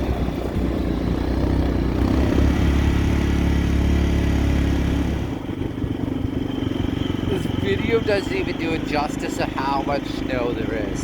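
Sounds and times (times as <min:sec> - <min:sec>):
quad engine running: 0:00.0 - 0:11.0.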